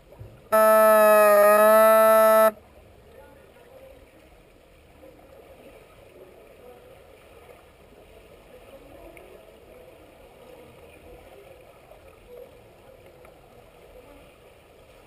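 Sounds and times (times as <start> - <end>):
muffled underwater water noise: 0.0 - 15.0.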